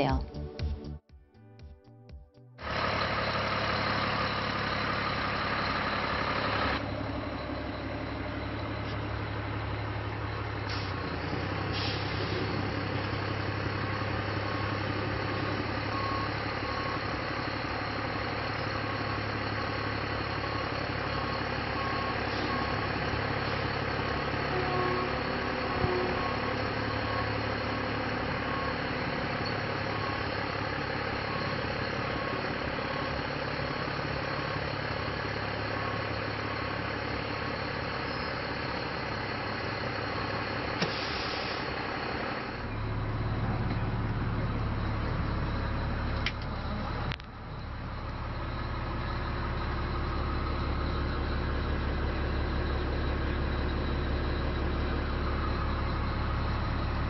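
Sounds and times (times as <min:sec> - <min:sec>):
diesel engine idling: 0:02.6 - 0:57.0.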